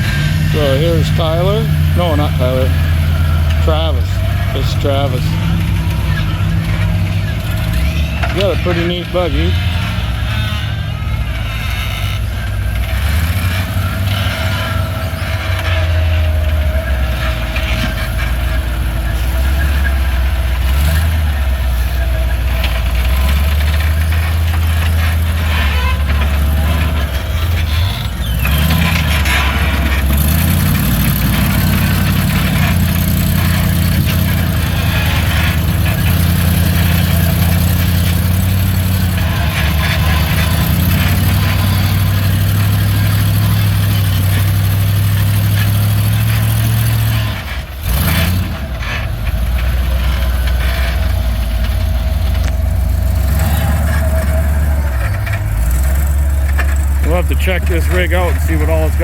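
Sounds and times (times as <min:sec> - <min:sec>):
buggy engine revving: 0:00.0 - 0:59.0.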